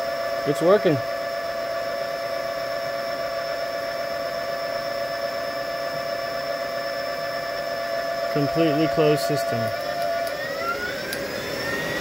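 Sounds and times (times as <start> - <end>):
electric motor whine: 0.0 - 12.0
motor hum: 0.0 - 12.0.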